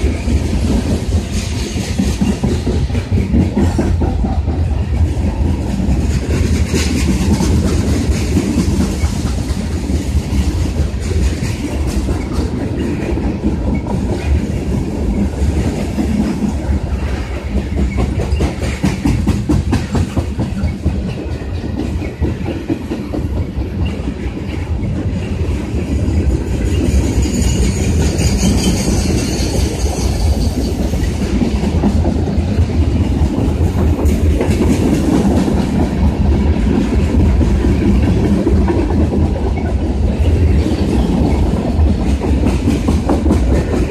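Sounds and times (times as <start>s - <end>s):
freight train rumbling: 0.0s - 43.9s
wheels clacking over rail joints: 0.0s - 43.9s.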